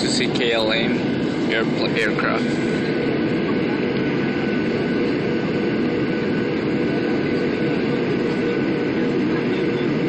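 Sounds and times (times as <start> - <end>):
faint steady whine: 0.0 - 10.0
jet engine rumble in cabin: 0.0 - 10.0.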